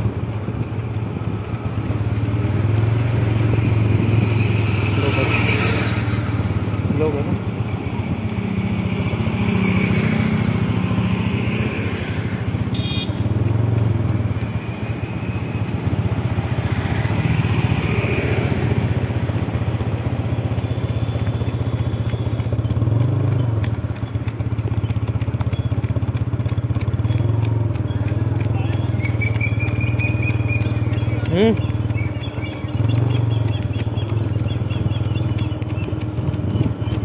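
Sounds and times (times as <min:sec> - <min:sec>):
scooter engine running: 0:00.0 - 0:37.0.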